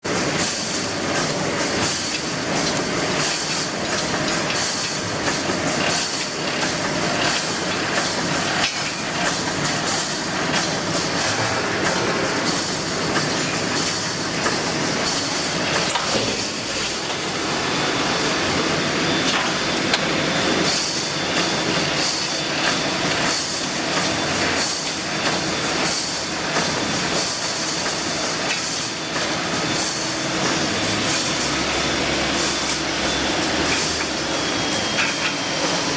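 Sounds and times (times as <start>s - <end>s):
welding machine clattering: 0.1s - 18.6s, 19.2s - 35.9s.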